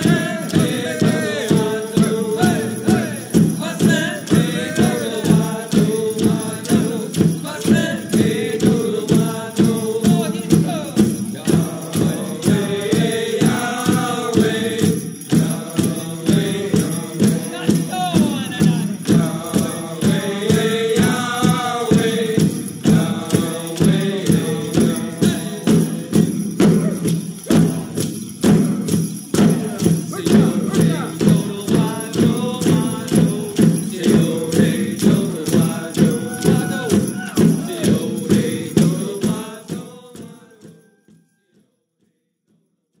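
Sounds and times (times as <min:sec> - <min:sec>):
voices singing: 0:00.0 - 0:40.9
steady drumbeat: 0:00.0 - 0:41.2
jingling bells: 0:00.0 - 0:41.6.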